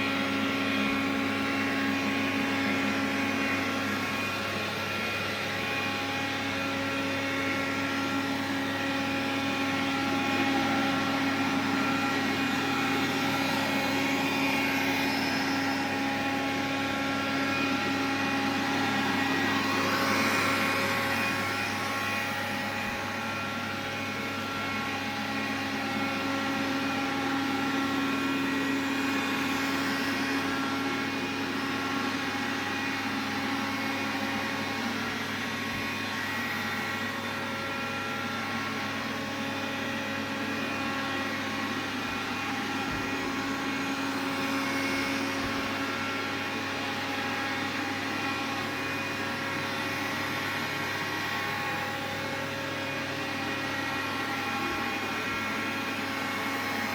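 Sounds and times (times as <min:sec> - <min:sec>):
vacuum cleaner whining: 0:00.0 - 0:56.9.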